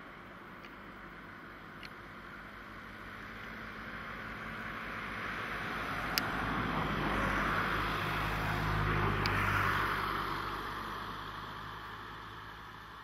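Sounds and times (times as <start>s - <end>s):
vehicle passing by: 2.2s - 13.0s.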